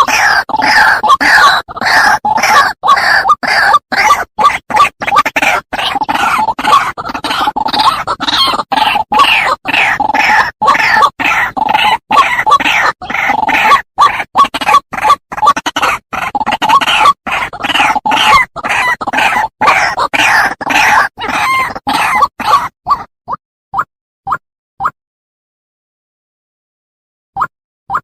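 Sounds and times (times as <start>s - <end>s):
waterhen calling: 0.0s - 23.1s.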